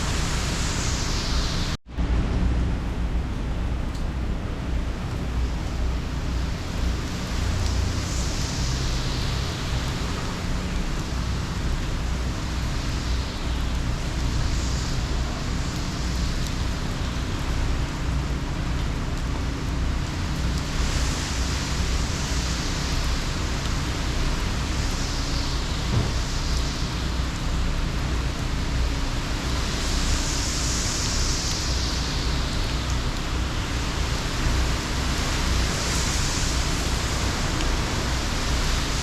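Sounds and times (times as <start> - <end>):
wind and rain rushing: 0.0 - 39.0
wind rumbling on microphone: 0.0 - 39.0.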